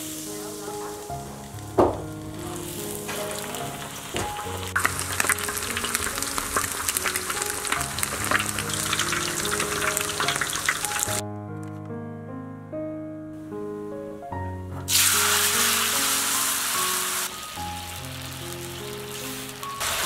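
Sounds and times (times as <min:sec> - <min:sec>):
food deep-frying in hot oil: 0:00.0 - 0:11.2, 0:14.9 - 0:20.0
background music: 0:00.0 - 0:20.0.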